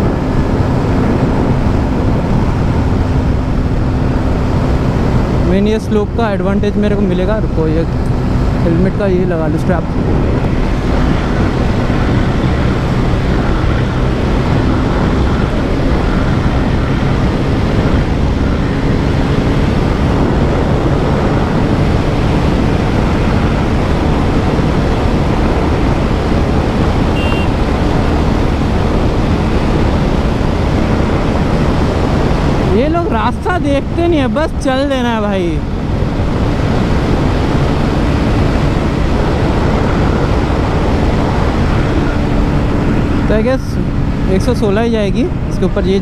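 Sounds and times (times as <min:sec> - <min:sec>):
motorcycle engine hum: 0:00.0 - 0:46.0
wind rush on microphone: 0:00.0 - 0:46.0.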